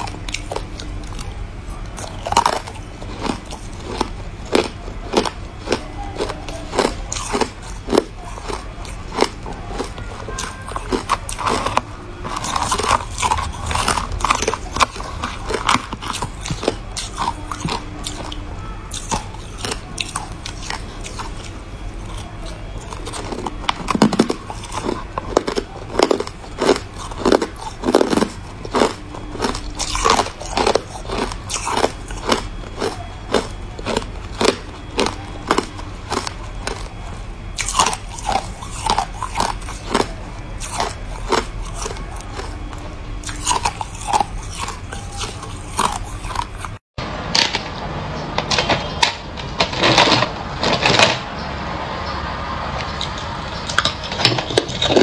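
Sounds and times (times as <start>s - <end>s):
crushed ice being chewed: 0.0s - 46.8s, 52.8s - 55.0s.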